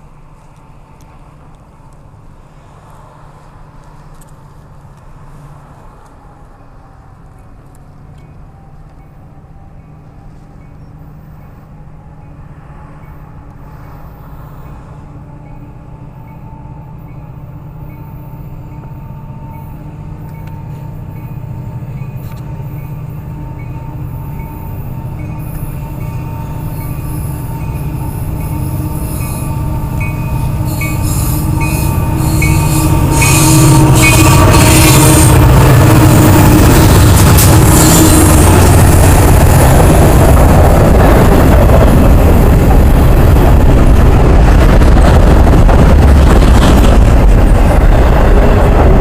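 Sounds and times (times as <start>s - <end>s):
diesel locomotive engines droning: 0.0s - 49.0s
wheel and rail noise: 0.0s - 49.0s.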